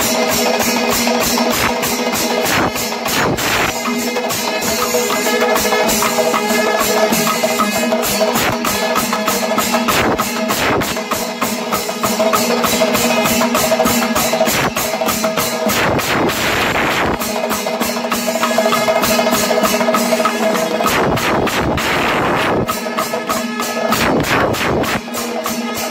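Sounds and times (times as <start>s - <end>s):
metallic ringing: 0.0s - 15.8s, 17.2s - 25.9s
fast drum strokes: 0.0s - 25.9s.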